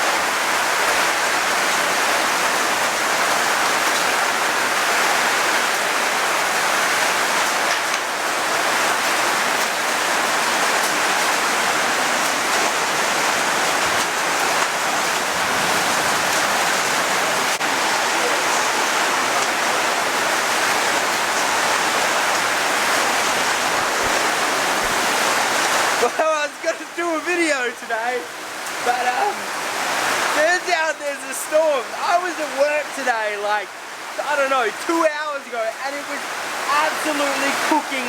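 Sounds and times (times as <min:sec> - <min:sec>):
heavy rain pouring: 0:00.0 - 0:38.0
water running off: 0:00.0 - 0:38.0.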